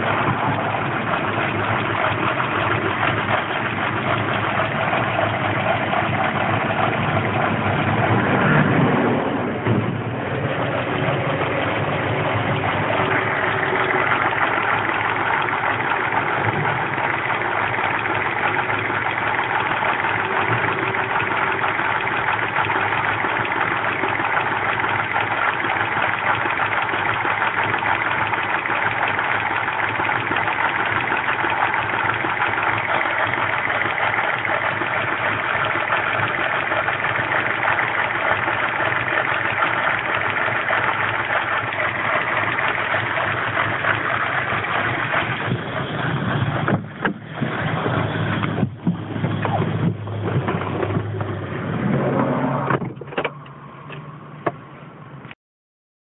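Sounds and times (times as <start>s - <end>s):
car engine idling: 0.0s - 54.7s.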